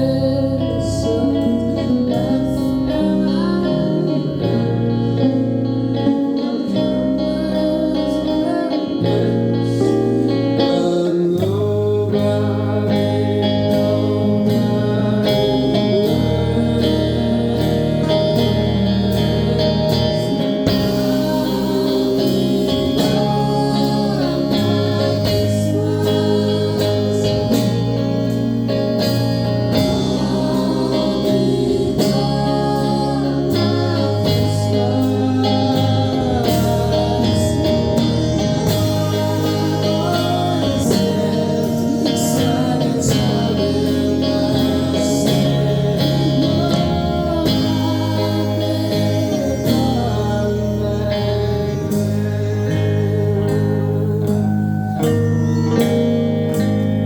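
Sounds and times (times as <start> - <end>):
live band music: 0.0 - 57.0
person singing: 0.0 - 57.0.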